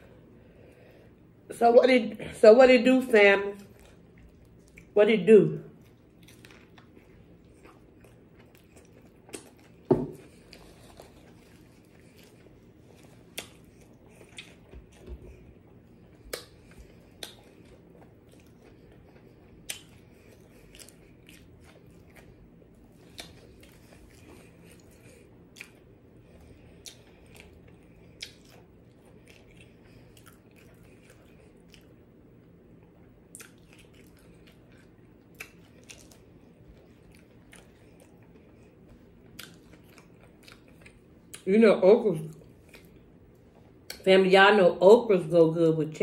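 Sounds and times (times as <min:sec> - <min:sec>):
faint low hum: 0:00.0 - 0:46.0
chewing crunchy fried food: 0:03.5 - 0:05.0, 0:05.6 - 0:41.5, 0:42.2 - 0:44.1.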